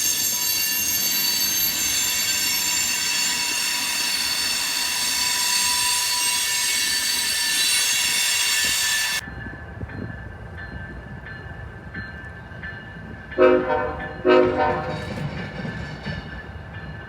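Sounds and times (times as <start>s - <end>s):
train running rumble: 0.0s - 17.0s
train wheels squealing on rail: 0.0s - 17.0s.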